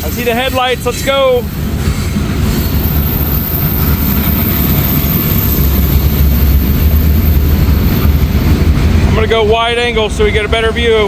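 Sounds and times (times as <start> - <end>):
freight train diesel rumble: 0.0 - 11.0.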